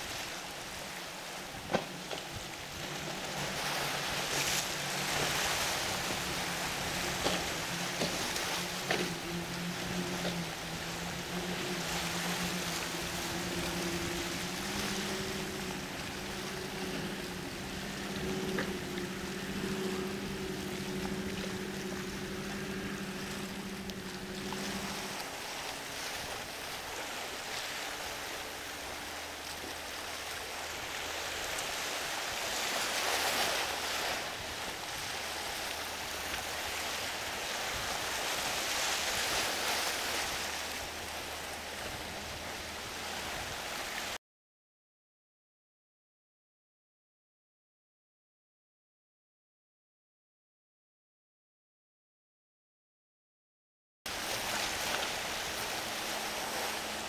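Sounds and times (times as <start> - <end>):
boat engine droning: 0.0 - 44.2, 54.1 - 57.0
surf: 0.0 - 44.2, 54.1 - 57.0
wind: 0.0 - 44.2, 54.1 - 57.0.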